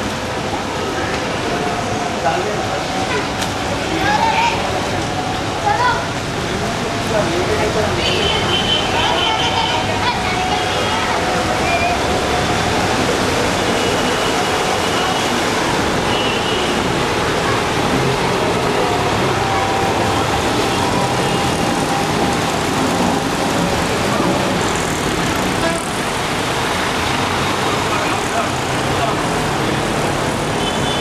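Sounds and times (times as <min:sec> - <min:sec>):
auto-rickshaw engines running: 0:00.0 - 0:31.0
wheels splashing through water: 0:00.0 - 0:31.0.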